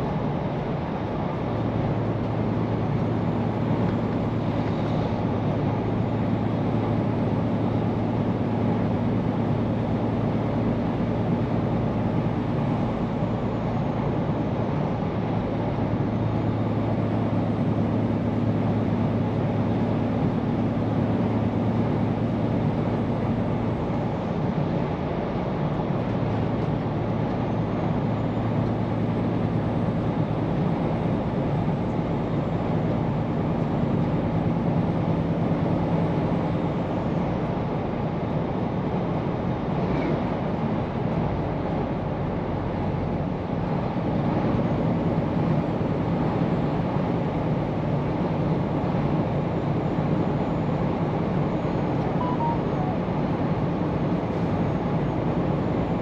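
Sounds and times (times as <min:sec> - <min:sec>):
truck engine drone: 0:00.0 - 0:56.0.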